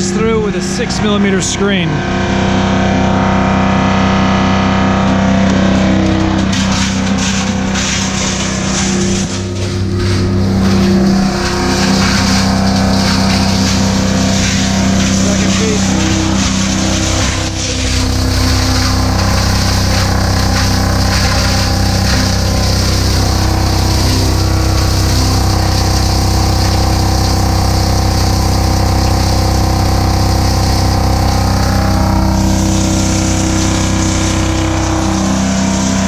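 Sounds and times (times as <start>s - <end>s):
granulator grinding plastic: 3.7s - 36.0s
crackles: 5.5s - 36.0s.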